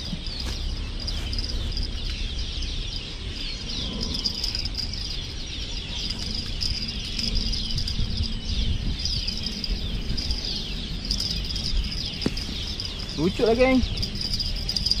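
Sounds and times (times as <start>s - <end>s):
low rumble: 0.0s - 13.2s
birds chirping: 0.0s - 15.0s.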